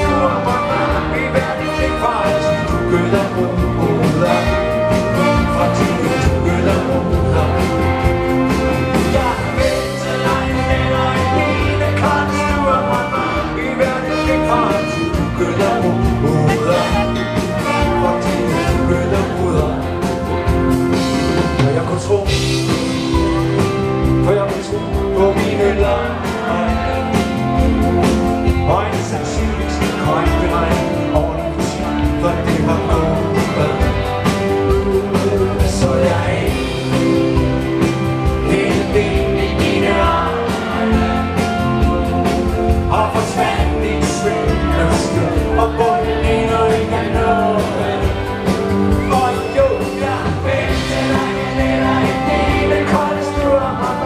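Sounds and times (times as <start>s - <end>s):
male lead vocal: 0.0s - 54.0s
rock band playing live: 0.0s - 54.0s.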